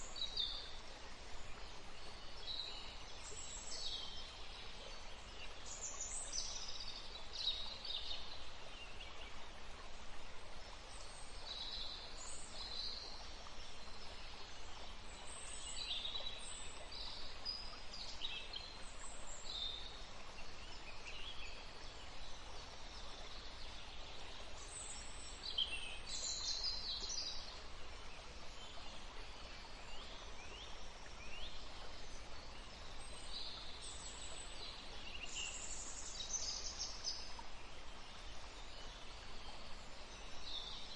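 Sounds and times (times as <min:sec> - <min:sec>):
faint steady outdoor hiss: 0:00.0 - 0:40.9.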